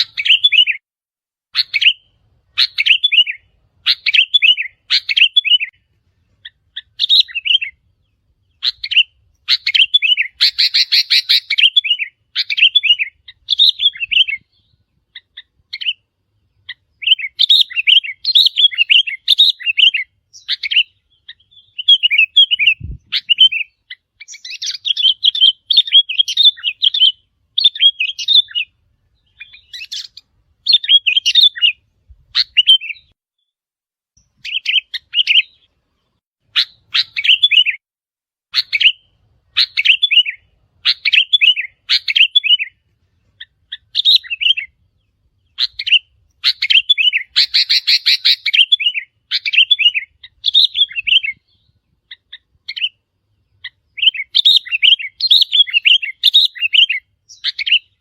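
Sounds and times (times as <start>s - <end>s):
bulbul song: 0.0s - 0.8s, 1.5s - 33.5s, 34.2s - 37.8s, 38.5s - 58.0s.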